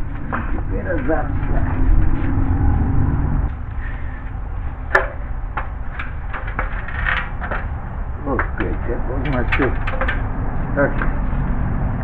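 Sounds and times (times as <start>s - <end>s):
low rumble of handling: 0.0s - 12.0s.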